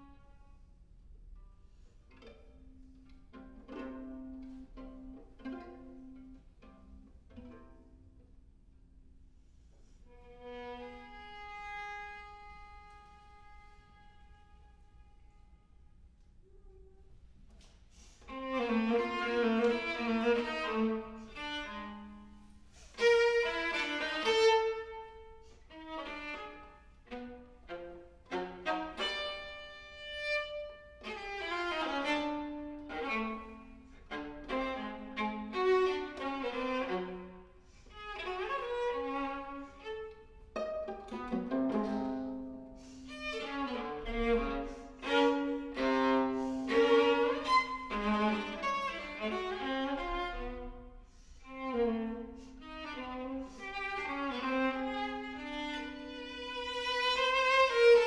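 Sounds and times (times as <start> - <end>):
low viola notes: 0.0 - 58.0.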